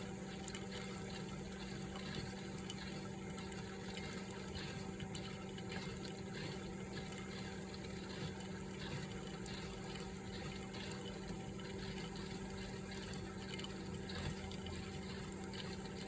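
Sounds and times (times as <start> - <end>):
water trickling in coffee maker: 0.0 - 16.0.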